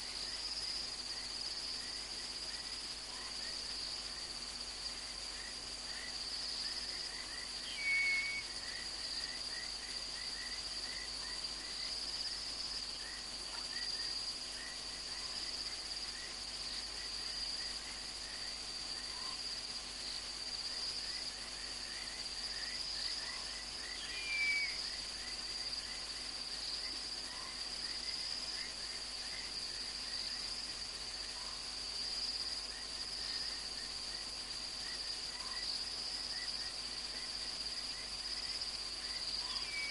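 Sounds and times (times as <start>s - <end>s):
insects chirping: 0.0s - 39.9s
insects trilling: 0.0s - 39.9s.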